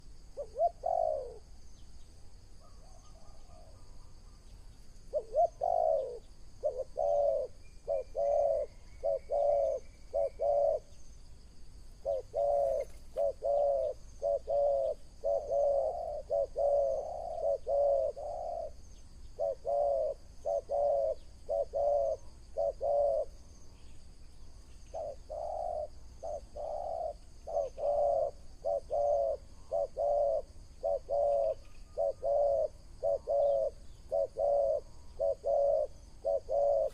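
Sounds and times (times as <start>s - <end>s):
dove cooing: 0.0s - 1.6s, 5.1s - 11.0s, 12.0s - 23.5s, 24.8s - 36.9s
faint higher bird calls: 0.0s - 11.2s, 12.0s - 36.9s.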